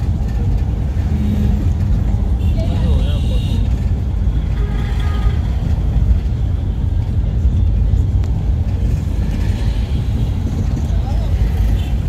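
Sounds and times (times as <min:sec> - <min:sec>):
engine and road noise in vehicle: 0:00.0 - 0:12.0.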